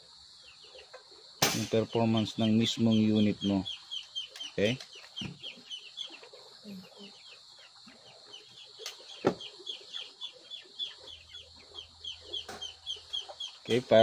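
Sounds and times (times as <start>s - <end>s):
bird chirping: 0.2s - 14.0s.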